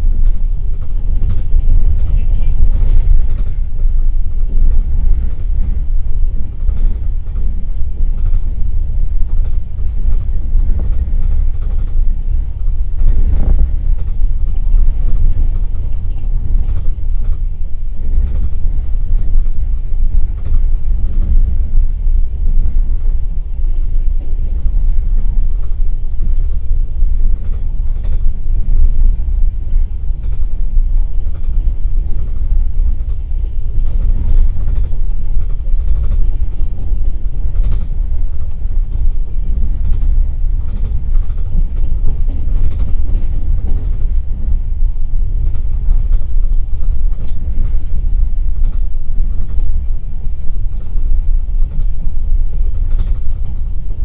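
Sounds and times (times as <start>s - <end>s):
louder rush of train: 0.0s - 54.0s
train wheels rumbling on rails: 0.0s - 54.0s
carriage creaks and clicks: 0.2s - 3.8s, 6.6s - 29.2s, 30.1s - 44.5s, 45.4s - 54.0s.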